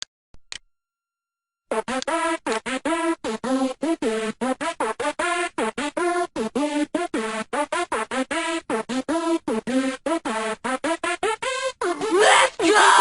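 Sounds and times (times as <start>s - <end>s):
choppy synthesizer notes: 1.7s - 13.0s.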